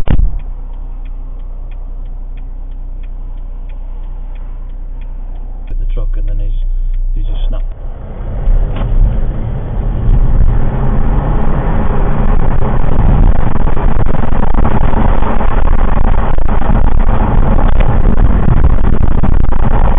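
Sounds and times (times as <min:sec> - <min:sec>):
vehicle road and engine rumble: 0:00.0 - 0:19.9.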